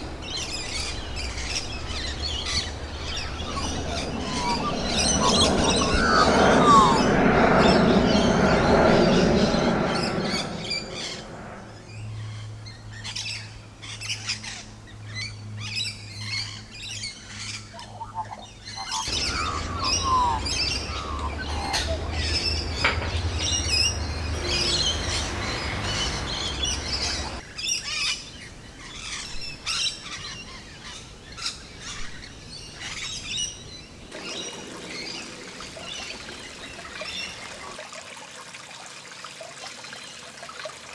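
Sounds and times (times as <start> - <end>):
birds chirping and calling: 0.0 - 11.3, 11.9 - 37.8
jet airliner passing overhead: 0.0 - 37.8
low steady hum: 0.0 - 37.8.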